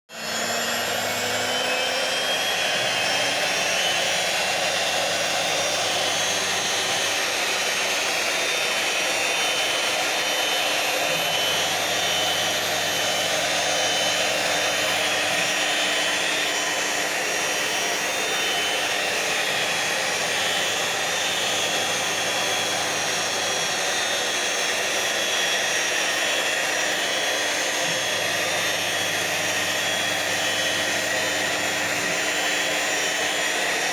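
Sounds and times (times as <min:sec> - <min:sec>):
router spindle whining: 0:00.1 - 0:33.9.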